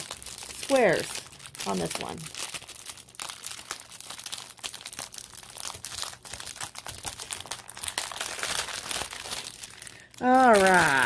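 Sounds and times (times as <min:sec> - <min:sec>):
paper crinkling: 0:00.0 - 0:11.0.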